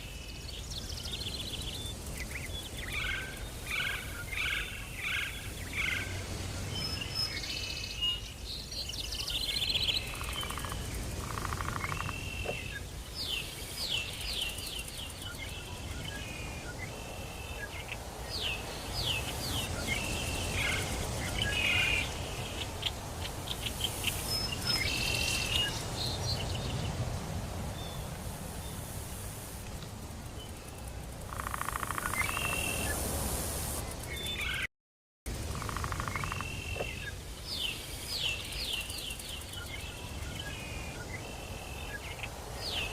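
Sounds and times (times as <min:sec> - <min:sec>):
birds chirping and trilling: 0:00.0 - 0:29.5, 0:30.3 - 0:33.2, 0:33.8 - 0:34.7, 0:35.5 - 0:42.9.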